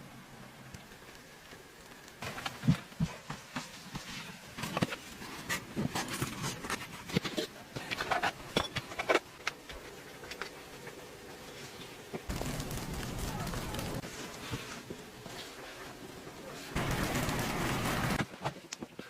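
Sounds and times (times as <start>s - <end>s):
rustling: 0.8s - 19.0s.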